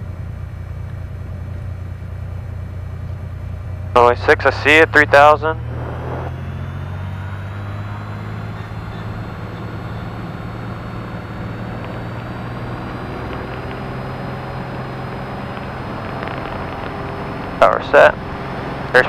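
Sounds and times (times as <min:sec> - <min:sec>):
propeller aircraft engine drone: 0:00.0 - 0:19.0.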